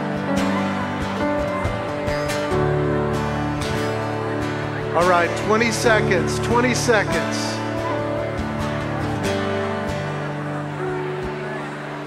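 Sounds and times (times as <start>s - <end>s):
instrumental music with sustained chords: 0.0s - 12.0s.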